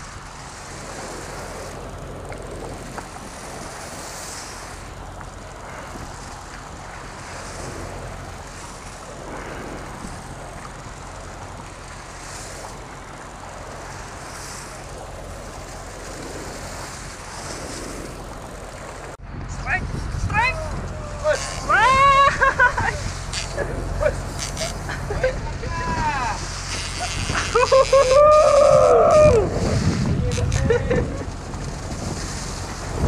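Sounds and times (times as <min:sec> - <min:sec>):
boat engine running: 0:00.0 - 0:33.0
water noise: 0:00.0 - 0:33.0
wind: 0:00.0 - 0:33.0.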